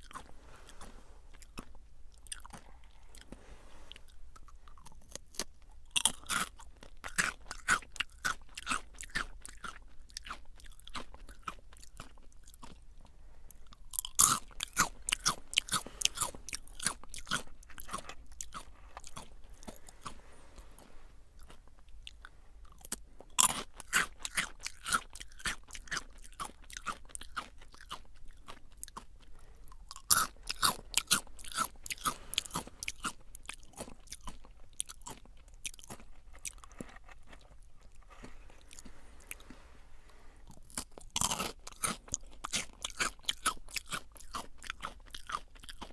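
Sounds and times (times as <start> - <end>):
crunchy snack chewing: 0.0 - 45.9.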